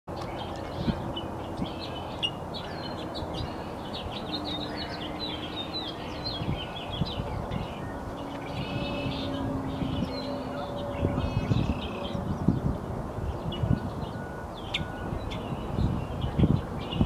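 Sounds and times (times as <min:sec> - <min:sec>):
songbirds chirping: 0:00.1 - 0:17.0.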